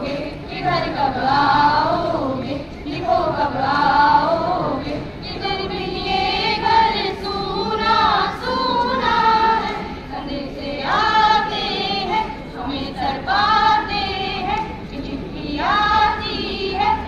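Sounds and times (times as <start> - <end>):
group of voices singing: 0.0 - 17.0.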